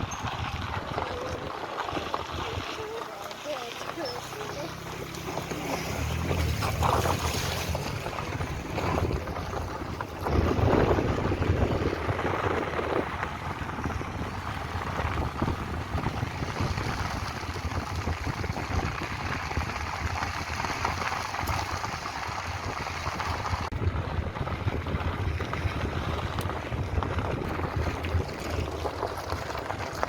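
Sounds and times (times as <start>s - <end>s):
low rumble and rushing: 0.0s - 30.0s
wind buffeting microphone: 0.0s - 30.0s.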